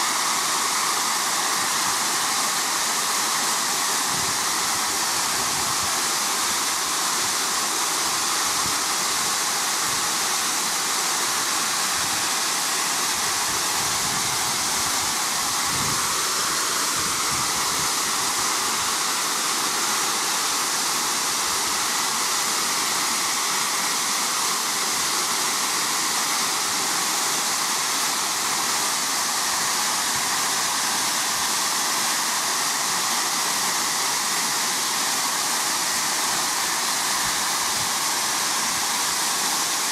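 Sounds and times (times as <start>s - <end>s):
steam hissing from safety valves: 0.0s - 39.9s.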